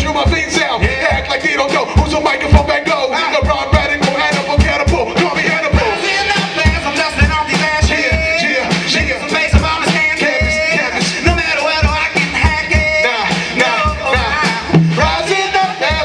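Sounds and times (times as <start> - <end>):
heavy kick drum beat: 0.0 - 16.0
hip hop music: 0.0 - 16.0.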